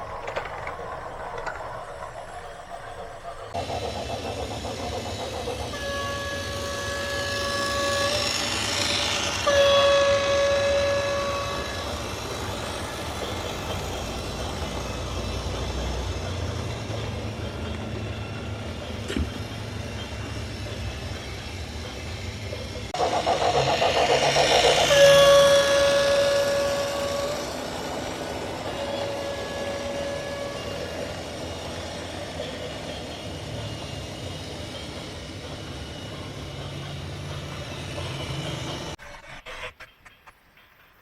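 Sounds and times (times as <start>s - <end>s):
steady high whine: 0.0s - 37.7s.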